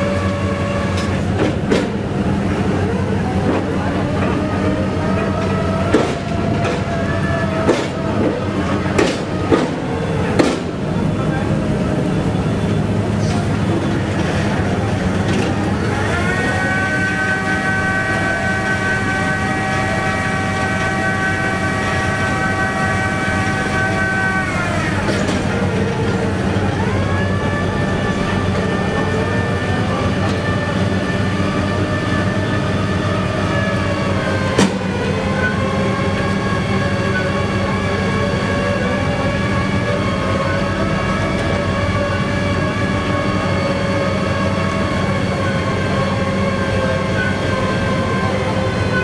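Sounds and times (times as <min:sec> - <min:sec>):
drilling rig engine humming: 0:00.0 - 0:49.0
hydraulic whine: 0:00.0 - 0:49.0.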